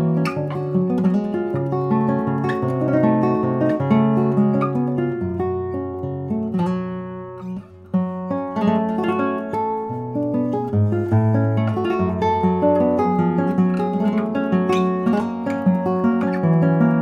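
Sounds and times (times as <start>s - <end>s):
solo classical guitar: 0.0s - 17.0s.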